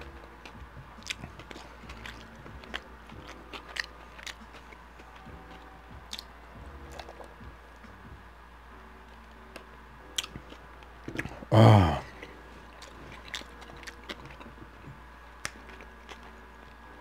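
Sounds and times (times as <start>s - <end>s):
chewing with wet mouth smacks: 0.0s - 7.9s, 9.5s - 11.4s, 12.1s - 16.8s.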